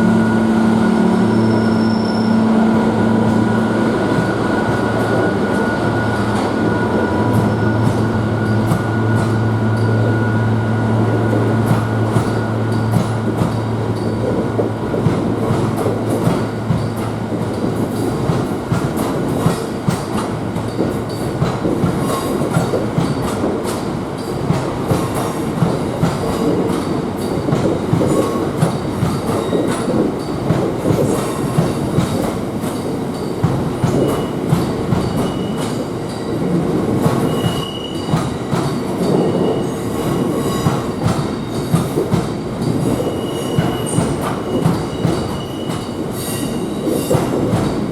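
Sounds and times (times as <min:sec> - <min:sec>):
low train engine drone: 0:00.0 - 0:47.9.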